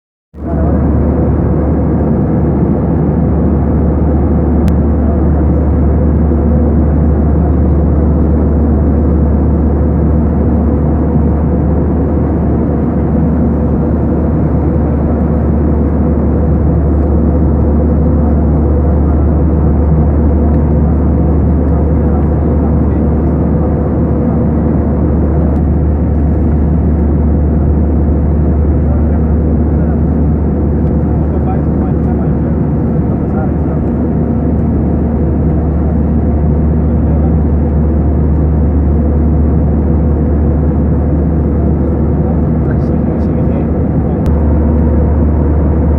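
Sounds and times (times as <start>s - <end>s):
airliner engine drone: 0.4s - 45.9s.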